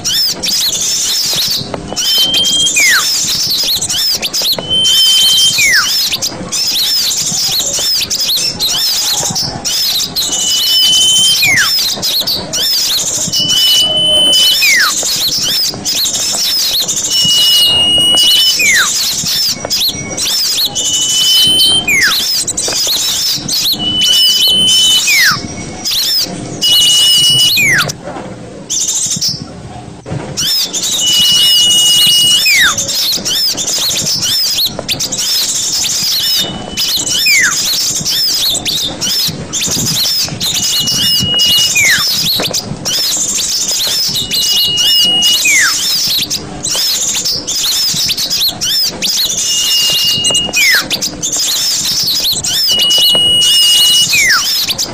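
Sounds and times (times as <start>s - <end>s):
small birds chirping: 0.0s - 28.0s, 28.7s - 29.5s, 30.4s - 54.9s
whistled bird call sliding down: 0.0s - 28.0s, 30.4s - 54.9s.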